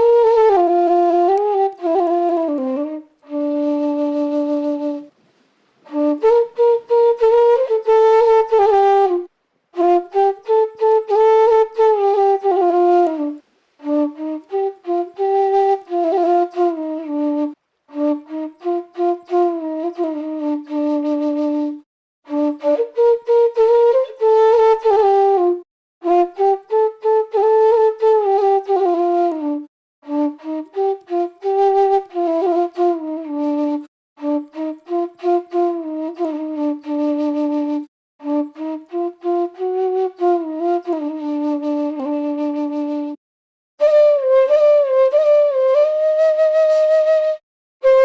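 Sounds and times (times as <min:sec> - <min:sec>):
solo flute-like melody: 0:00.0 - 0:05.2, 0:05.8 - 0:43.2, 0:43.8 - 0:48.0.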